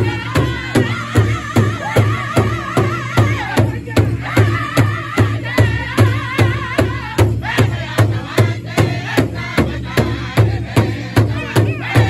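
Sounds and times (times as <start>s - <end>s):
chorus of high wavering voices: 0.0s - 12.0s
large drum beating: 0.0s - 12.0s.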